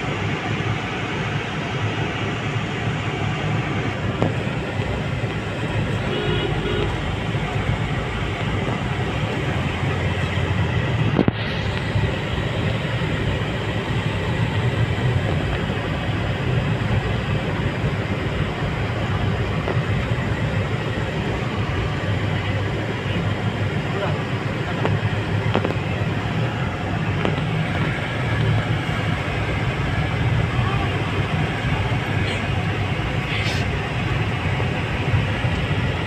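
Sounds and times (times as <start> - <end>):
vehicle engine and road rumble: 0.0 - 36.0.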